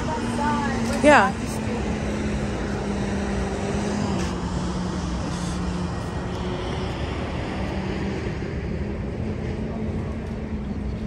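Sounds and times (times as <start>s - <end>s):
loud outdoor rushing noise: 0.0s - 11.0s
low engine drone: 0.0s - 11.0s.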